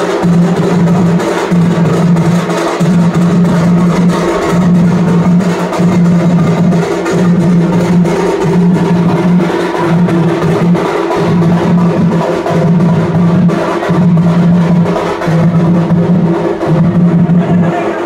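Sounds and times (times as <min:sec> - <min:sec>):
drums and percussion: 0:00.0 - 0:18.0.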